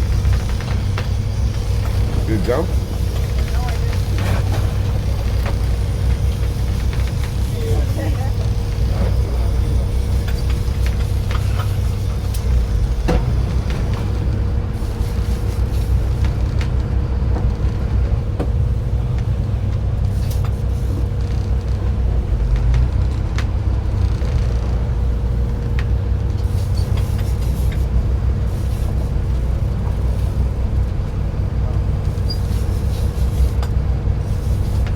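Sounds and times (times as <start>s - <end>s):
boat engine drone: 0.0s - 34.9s.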